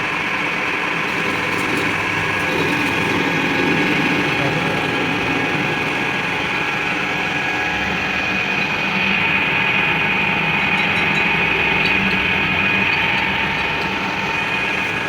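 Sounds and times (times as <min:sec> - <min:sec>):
workshop machine whining: 0:00.0 - 0:15.0.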